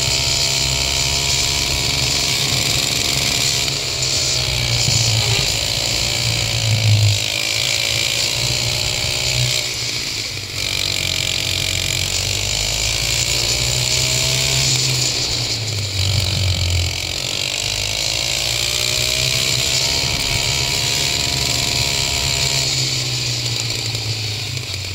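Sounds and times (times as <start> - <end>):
go-kart engine revving: 0.0 - 24.9.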